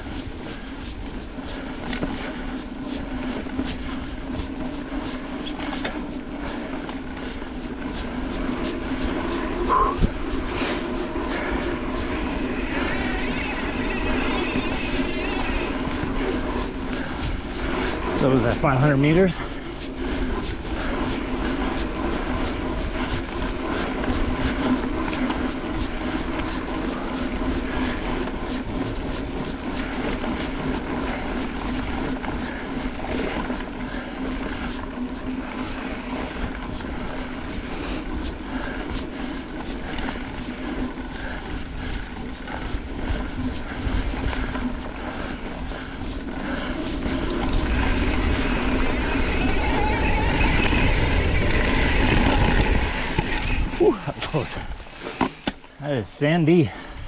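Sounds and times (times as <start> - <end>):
bike clicks and rattles: 0.0 - 55.8
wind rumble: 0.0 - 55.8
bike tyres humming on dirt: 0.0 - 57.0.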